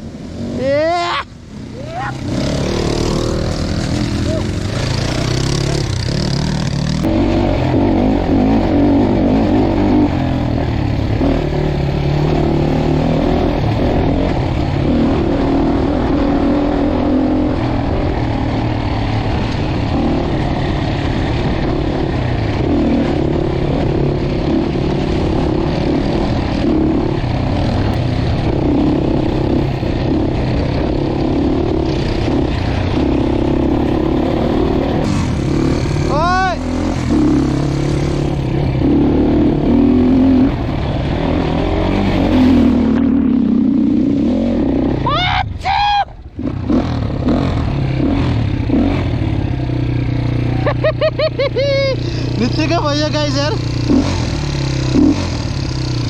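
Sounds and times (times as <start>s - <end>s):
dirt bike engine revving: 0.0s - 45.2s, 46.2s - 56.0s.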